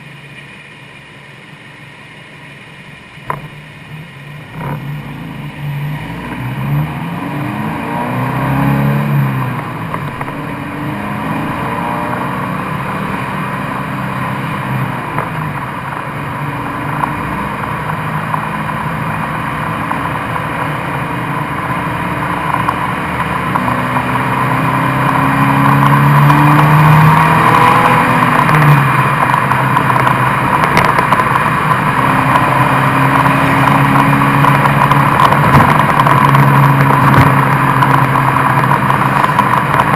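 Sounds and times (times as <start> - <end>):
car engine exhaust revving: 3.3 - 39.9.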